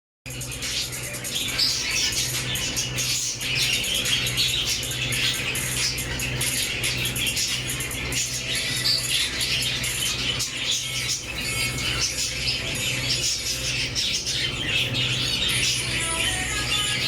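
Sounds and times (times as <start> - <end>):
parrots chattering: 0.3 - 17.0
steady low hum: 0.3 - 17.0.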